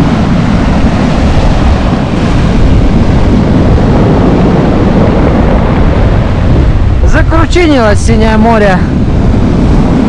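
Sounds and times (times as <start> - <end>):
sea waves surging on shore: 0.0 - 10.0
wind on microphone: 0.0 - 10.0.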